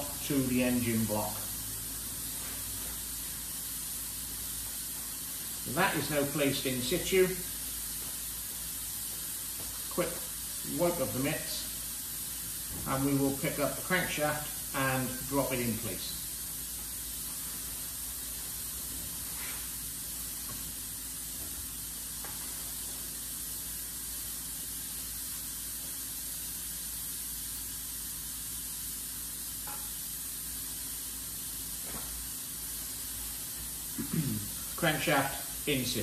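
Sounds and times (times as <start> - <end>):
steady background hiss: 0.0 - 36.0.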